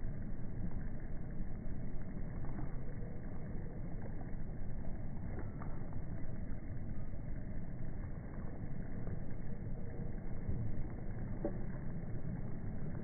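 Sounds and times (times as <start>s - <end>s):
muffled low rumble: 0.0s - 13.0s.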